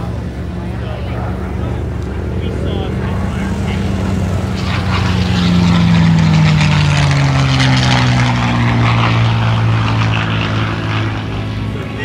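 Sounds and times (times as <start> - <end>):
propeller airplane flying past: 0.0 - 12.0.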